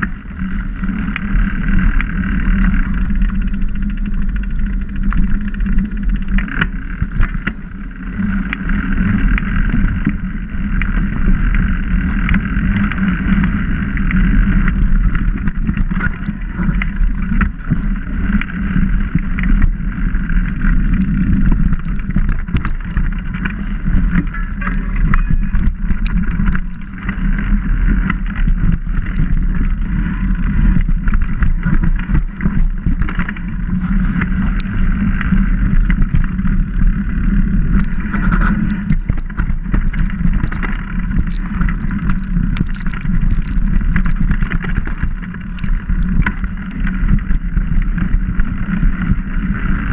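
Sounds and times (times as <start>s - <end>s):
bike rattling over bumps: 0.0s - 49.9s
tyre and wind rumble: 0.0s - 49.9s.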